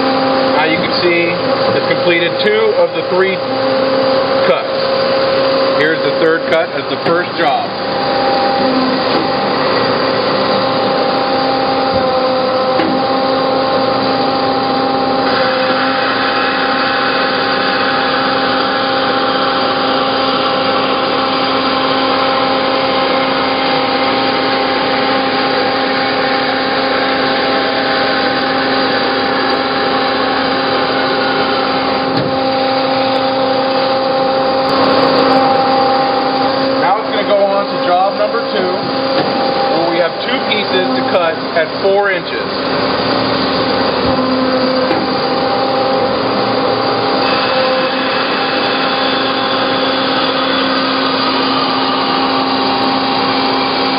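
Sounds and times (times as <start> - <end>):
bandsaw machine hum: 0.0 - 53.9.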